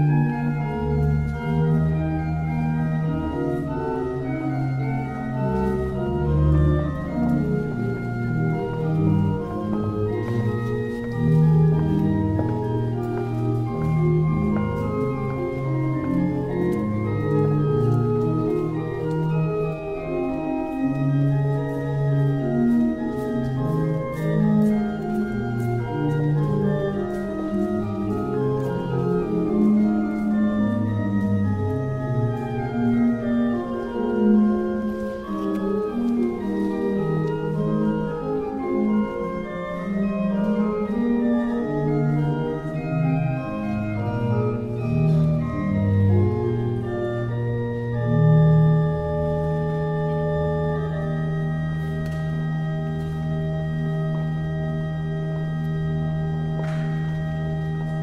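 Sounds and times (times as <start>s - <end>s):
organ playing slow chords: 0.0s - 58.0s.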